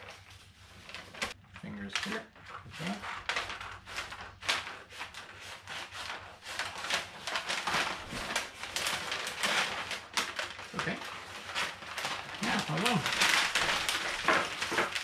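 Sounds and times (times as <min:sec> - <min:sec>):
paper rustling and crackling: 0:00.0 - 0:15.0
scissors cutting paper: 0:01.1 - 0:15.0.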